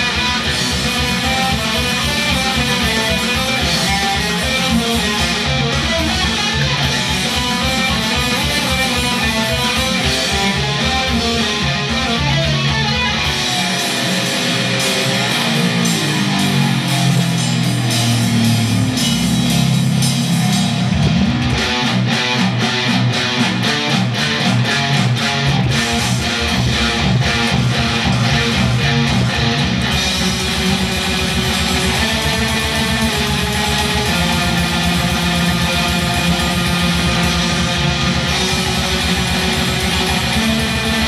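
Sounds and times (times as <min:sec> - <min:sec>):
distorted electric guitar riff: 0:00.0 - 0:41.0.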